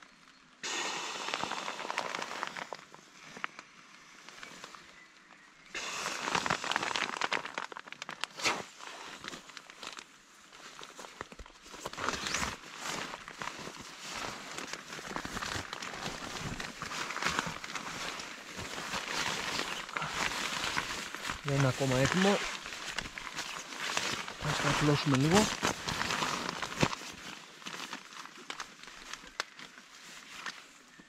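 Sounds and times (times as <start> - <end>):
nylon and plastic rustling: 1.2 - 31.0.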